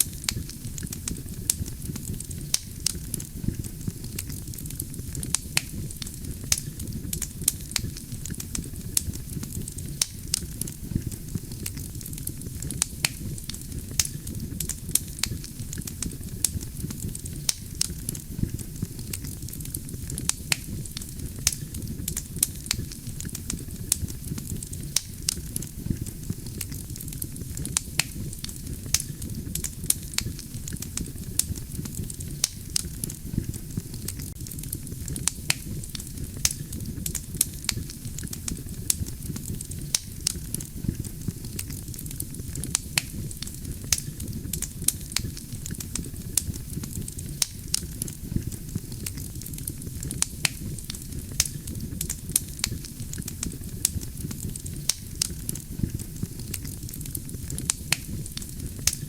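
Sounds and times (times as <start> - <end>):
burning logs crackling and popping: 0.0 - 59.0
flames rumbling: 0.0 - 59.0.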